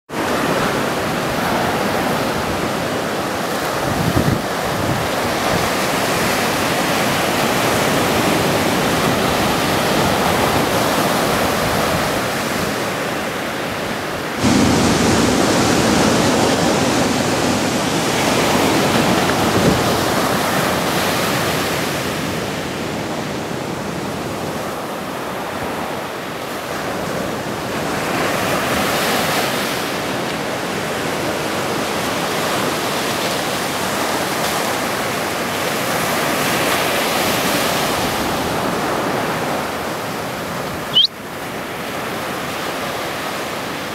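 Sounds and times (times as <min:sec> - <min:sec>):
ocean waves breaking: 0:00.1 - 0:43.9.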